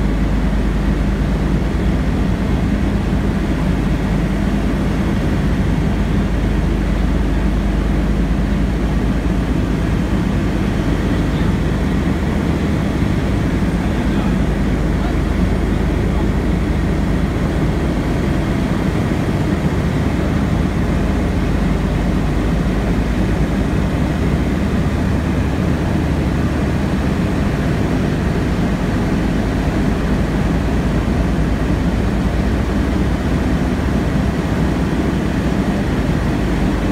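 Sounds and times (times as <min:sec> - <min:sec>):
aircraft engines droning: 0:00.0 - 0:36.9.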